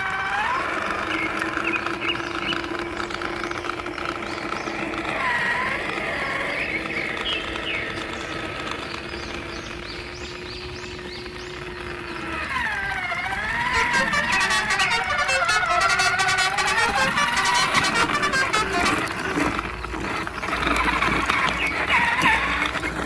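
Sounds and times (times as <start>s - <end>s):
birds chirping: 0.0s - 23.0s
small electric motor humming: 0.0s - 23.0s
fine gear rattle: 0.6s - 23.0s.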